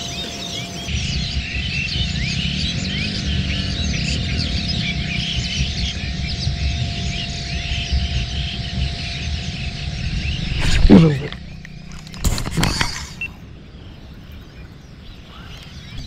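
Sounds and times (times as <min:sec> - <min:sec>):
faint hum: 0:00.0 - 0:16.0
small birds chirping: 0:00.0 - 0:16.0
low rumble: 0:00.8 - 0:16.0.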